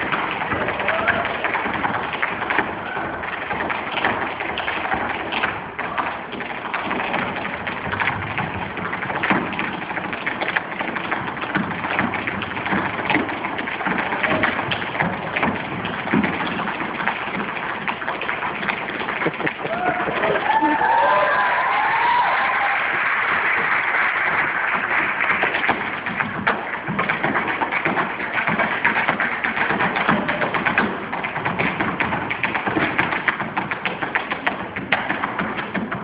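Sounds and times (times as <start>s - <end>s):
tap shoes on stage floor: 0.0s - 36.0s.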